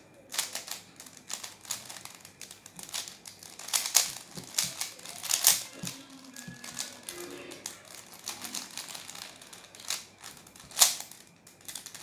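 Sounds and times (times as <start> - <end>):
puzzle cube clicking: 0.2 - 12.0.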